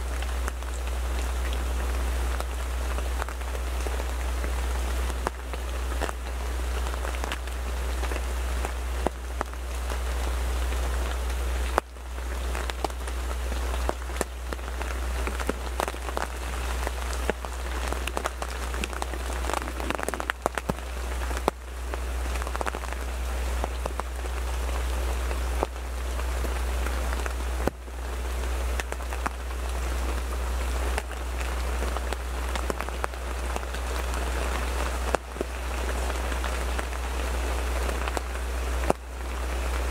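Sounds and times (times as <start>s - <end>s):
rain drops hitting fabric: 0.0s - 39.9s
steady low rumble: 0.0s - 39.9s.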